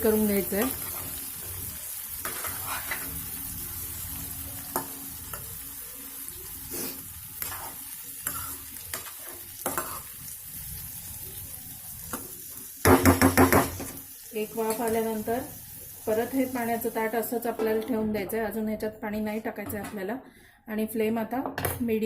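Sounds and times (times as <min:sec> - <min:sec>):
vegetables sizzling in oil: 0:00.0 - 0:17.9.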